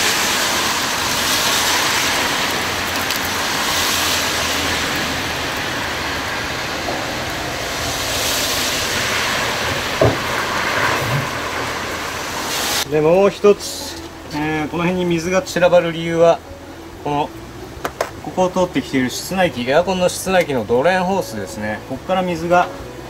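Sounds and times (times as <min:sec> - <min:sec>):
rain on wet paving: 0:00.0 - 0:23.0.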